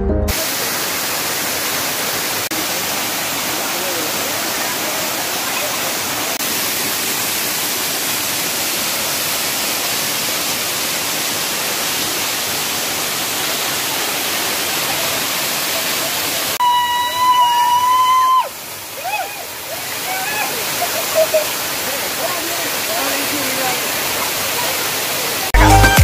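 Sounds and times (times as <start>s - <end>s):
waterfall rushing: 0.3s - 26.0s.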